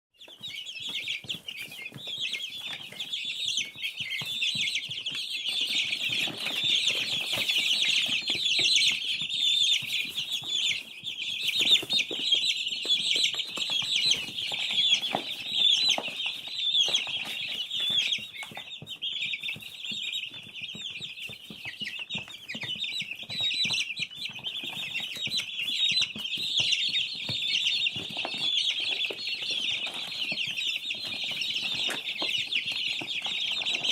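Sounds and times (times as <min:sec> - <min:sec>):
flock of chickens calling: 0:00.2 - 0:33.9.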